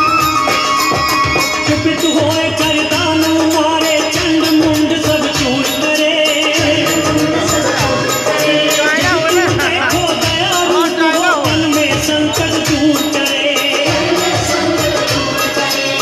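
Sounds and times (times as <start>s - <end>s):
drums: 0.0s - 16.0s
jingling rattle percussion: 0.0s - 16.0s.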